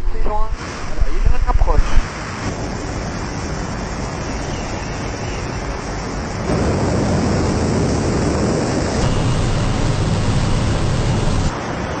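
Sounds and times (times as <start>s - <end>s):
wind rushing on microphone: 0.0s - 12.0s.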